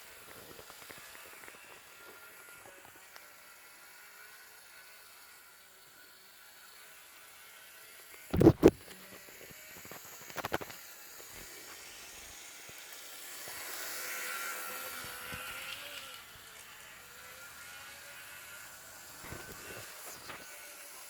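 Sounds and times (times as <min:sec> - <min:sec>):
electric motor whir: 0:00.0 - 0:21.0.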